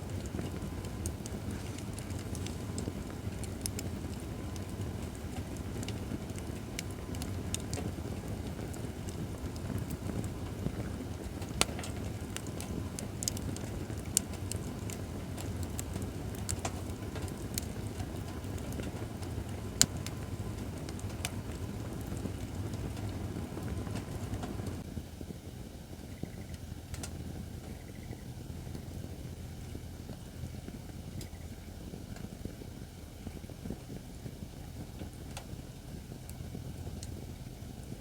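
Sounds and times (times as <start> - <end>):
firewood crackling and popping: 0.0 - 38.0
low rush of flames: 0.0 - 38.0.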